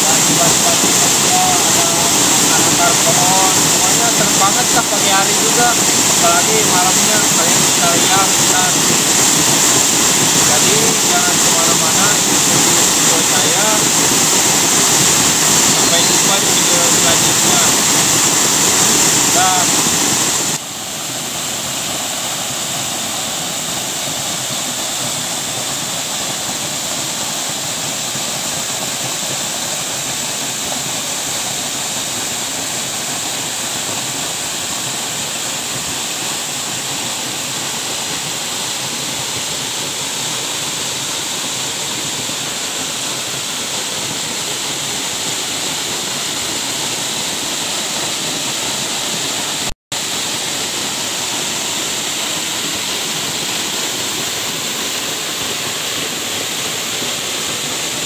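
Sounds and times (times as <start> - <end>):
waterfall splashing into pool: 0.0 - 58.0.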